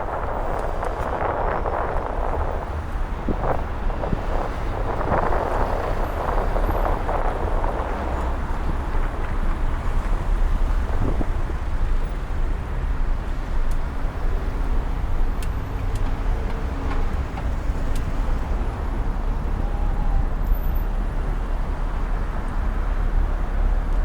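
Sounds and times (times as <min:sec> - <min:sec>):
city street traffic rumble: 0:00.0 - 0:24.0.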